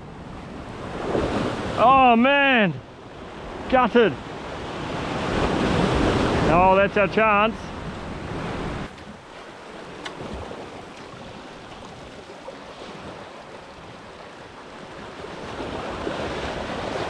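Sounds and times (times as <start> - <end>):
sea surf washing against rocks: 0.6 - 17.0.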